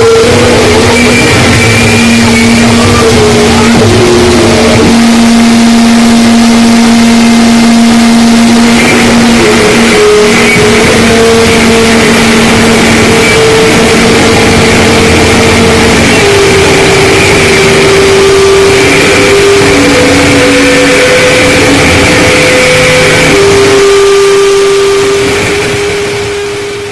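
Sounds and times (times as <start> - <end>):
harsh distorted noise music: 0.0 - 26.9
held whining tones: 0.0 - 26.9.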